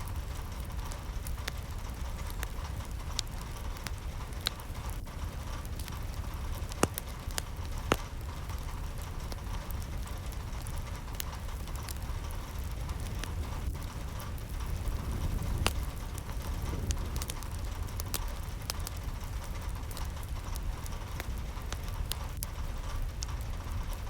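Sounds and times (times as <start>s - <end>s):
low rumble: 0.0s - 24.0s
raindrops ticking on surface: 0.0s - 24.0s
steady rain: 0.0s - 24.0s.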